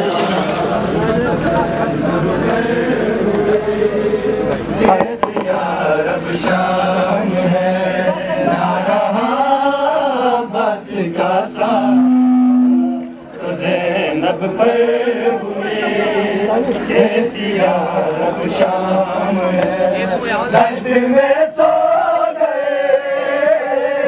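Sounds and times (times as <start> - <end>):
crowd of men chanting: 0.0 - 24.0.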